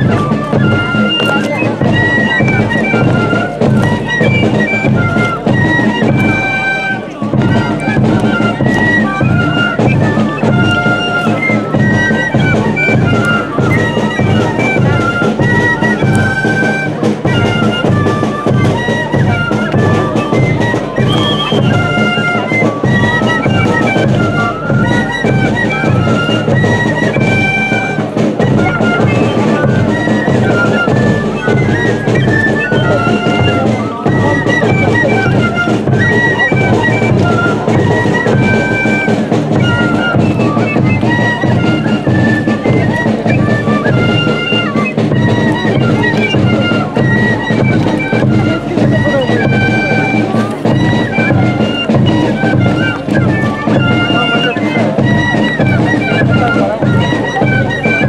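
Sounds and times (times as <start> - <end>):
wind instruments playing melody: 0.0 - 58.0.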